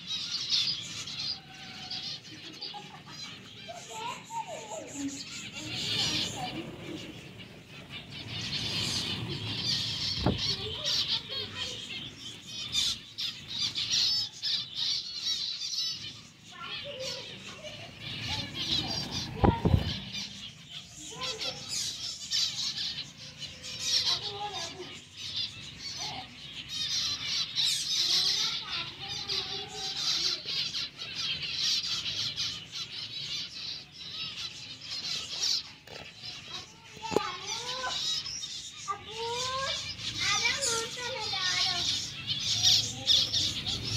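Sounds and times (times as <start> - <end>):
small parrots chirping and chattering: 0.0 - 43.9.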